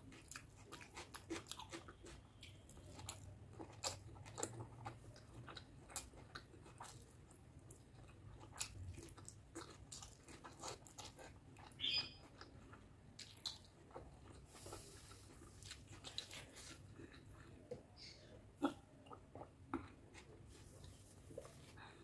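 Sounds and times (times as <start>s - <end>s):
person chewing food: 0.0s - 22.0s.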